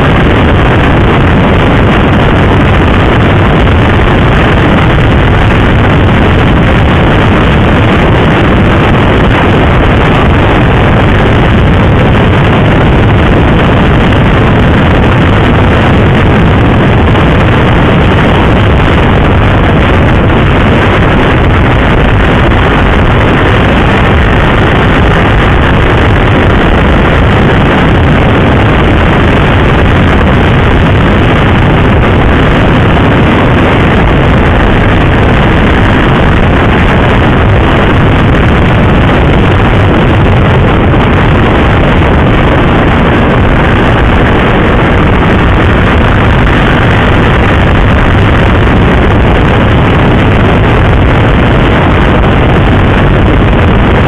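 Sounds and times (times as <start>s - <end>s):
wind roar on microphone: 0.0s - 54.0s.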